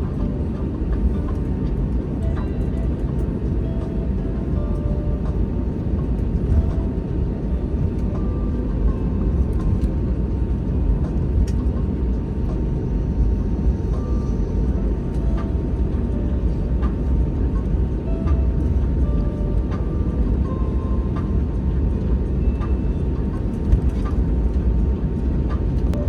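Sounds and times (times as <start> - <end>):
aircraft engines rumbling: 0.0 - 26.0.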